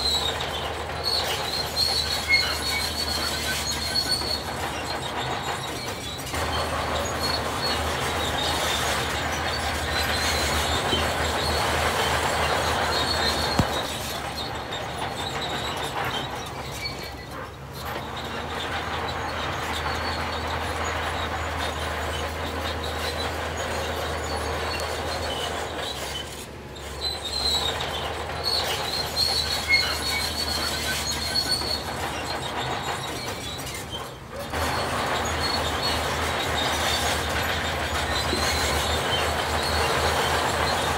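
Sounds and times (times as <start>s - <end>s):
diesel machinery droning: 0.0s - 40.9s
high metallic squeal: 0.0s - 40.9s
loud grinding rattle: 0.0s - 40.9s.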